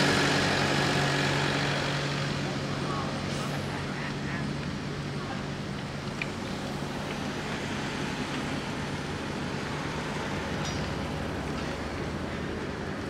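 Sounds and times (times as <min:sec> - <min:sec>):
low engine hum: 0:00.0 - 0:13.0
outdoor background noise: 0:00.0 - 0:13.0.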